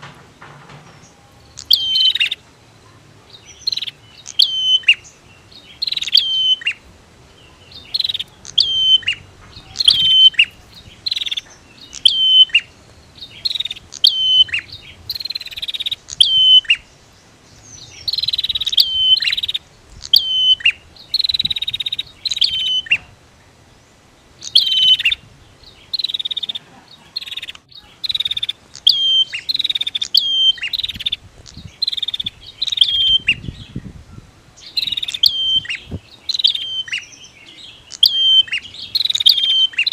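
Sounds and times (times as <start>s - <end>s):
birds chattering calls: 0.0s - 39.9s.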